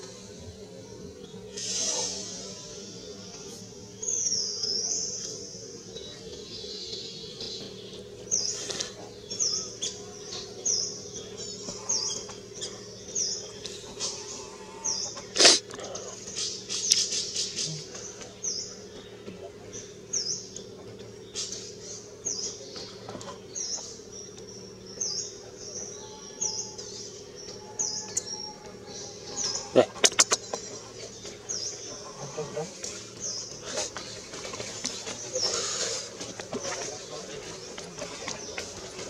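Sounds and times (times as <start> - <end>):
bird chirping: 1.1 - 39.0.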